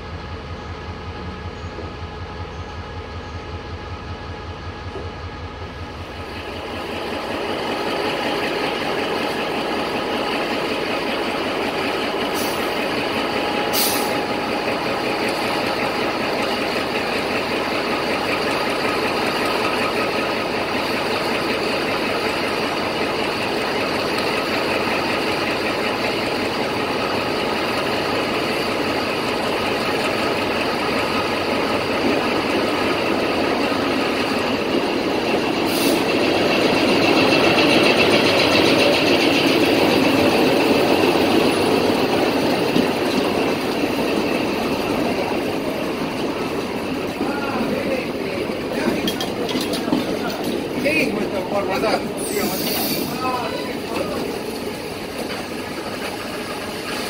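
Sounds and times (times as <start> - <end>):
locomotive engine running: 0.0 - 57.0.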